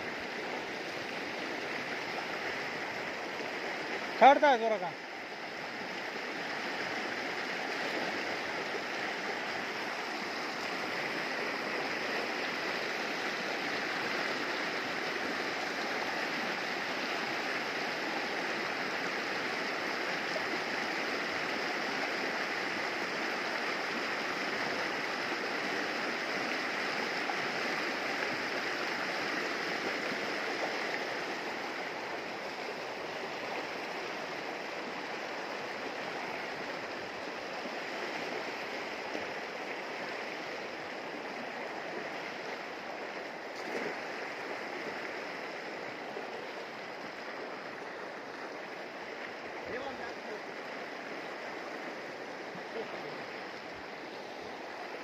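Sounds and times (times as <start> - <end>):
river rushing over stones: 0.0 - 55.0.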